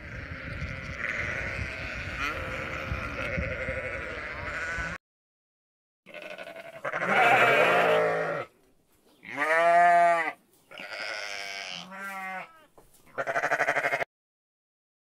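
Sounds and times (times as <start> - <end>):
sheep bleating: 0.0 - 5.0, 6.1 - 8.5, 9.2 - 14.1.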